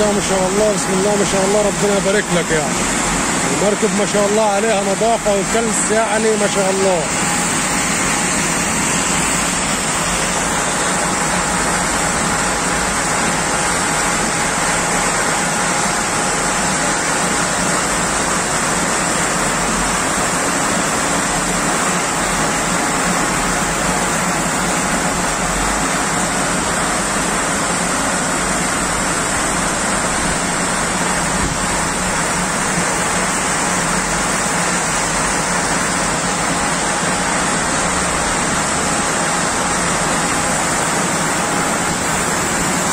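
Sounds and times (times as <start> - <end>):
conveyor machinery hum: 0.0 - 42.9.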